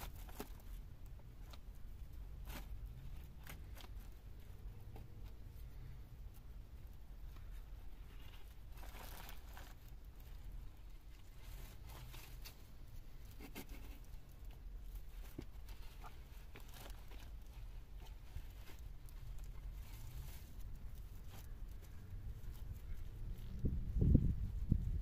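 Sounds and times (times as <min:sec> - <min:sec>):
low steady rumble: 0:00.0 - 0:25.0
rustling and crinkling: 0:00.0 - 0:25.0.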